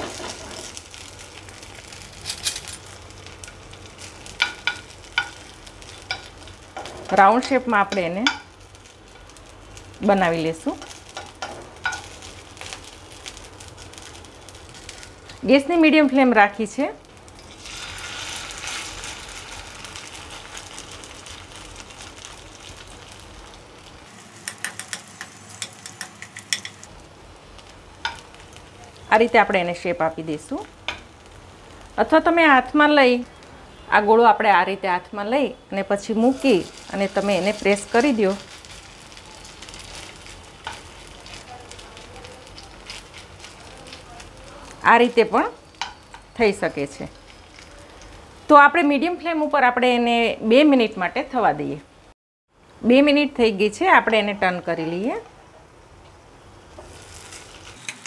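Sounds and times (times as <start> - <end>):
oil sizzling in a pan: 0.0 - 52.2, 52.8 - 58.0.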